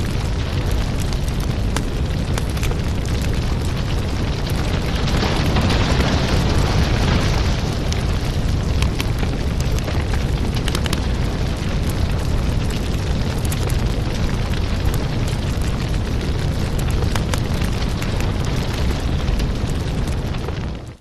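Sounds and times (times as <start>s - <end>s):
burning wood crackling and popping: 0.0s - 21.0s
fire flames rushing: 0.0s - 21.0s.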